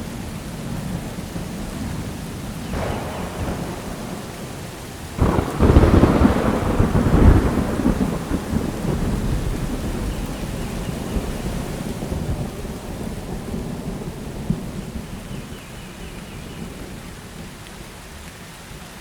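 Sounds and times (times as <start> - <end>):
thunder rumbling: 0.0 - 17.9
steady rain: 0.0 - 19.0
loud thunderclap: 1.7 - 17.0.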